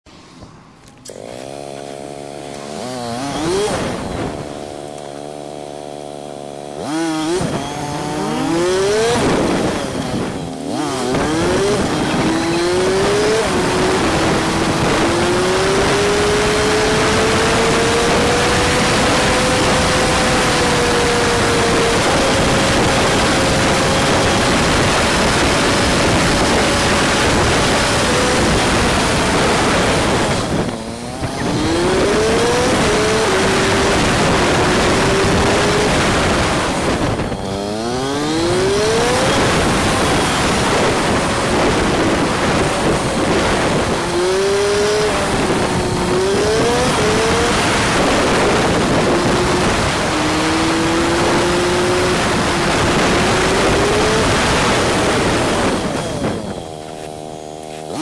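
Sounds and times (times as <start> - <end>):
motorcycle engine revving: 0.0 - 58.0
wind rushing over microphone: 0.1 - 5.4, 6.7 - 58.0.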